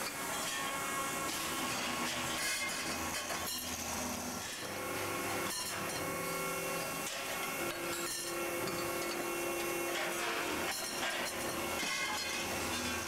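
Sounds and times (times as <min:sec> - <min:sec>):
workshop machinery hum and whine: 0:00.0 - 0:13.0.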